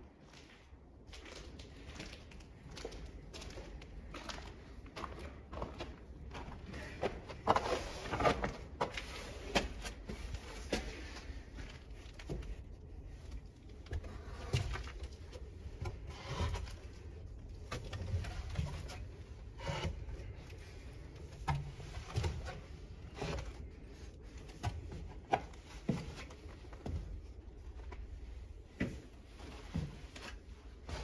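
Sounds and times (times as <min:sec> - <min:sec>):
footsteps on wooden stairs: 0:01.2 - 0:13.2, 0:13.8 - 0:31.0.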